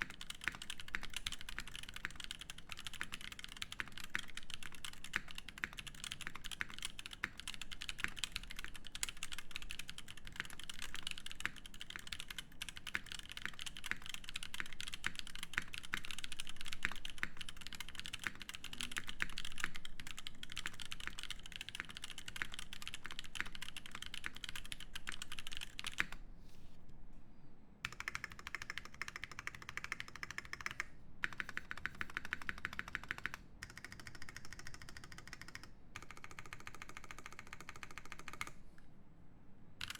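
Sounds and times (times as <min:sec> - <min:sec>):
mechanical keyboard typing clacks: 0:00.0 - 0:26.2, 0:27.9 - 0:38.6.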